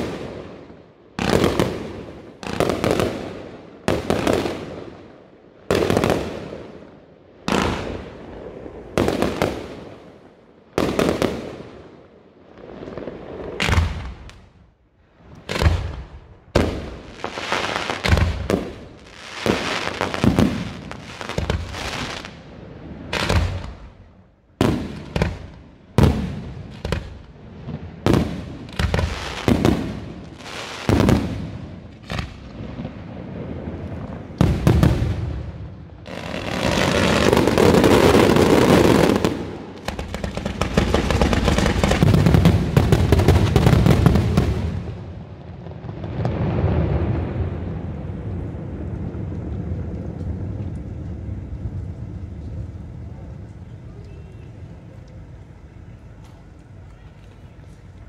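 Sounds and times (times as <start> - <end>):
fireworks bursting: 0.0 - 14.6, 15.2 - 58.0.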